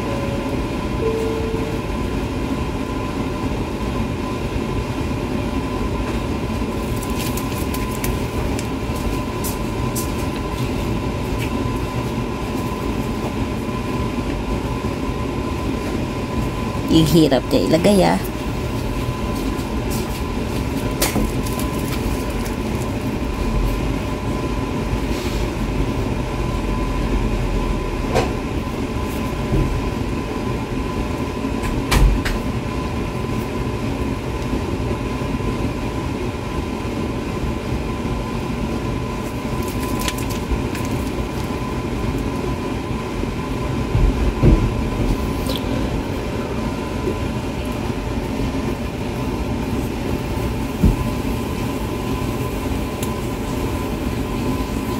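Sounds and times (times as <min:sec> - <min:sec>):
machine humming drone: 0:00.0 - 0:54.9.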